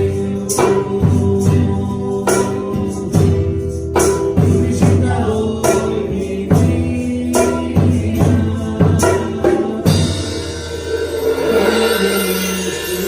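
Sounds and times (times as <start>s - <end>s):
band playing praise song: 0.0s - 13.0s
tambourine strikes: 0.0s - 13.0s.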